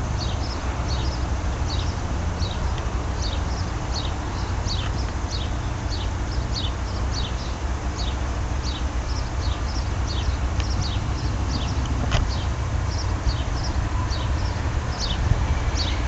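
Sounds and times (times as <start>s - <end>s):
birds chirping: 0.0s - 16.0s
low steady rumble: 0.0s - 16.0s.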